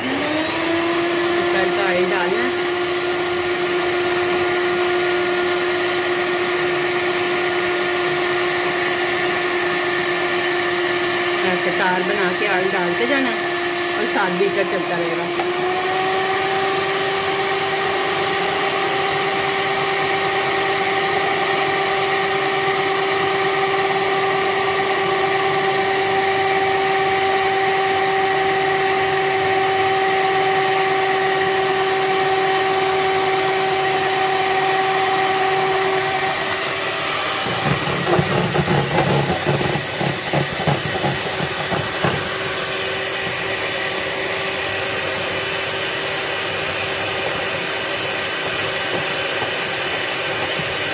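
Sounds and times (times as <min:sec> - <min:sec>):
electric mixer motor whine: 0:00.0 - 0:50.9
mixer rattling and knocking: 0:00.0 - 0:50.9.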